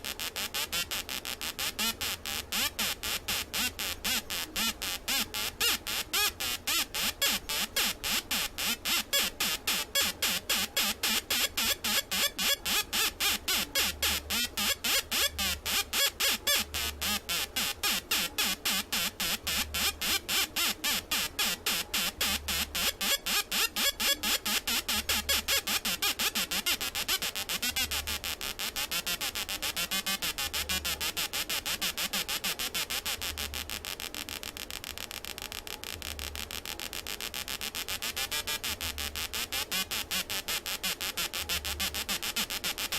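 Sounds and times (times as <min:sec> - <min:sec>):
buzzy electronic chirps: 0:00.0 - 0:42.9.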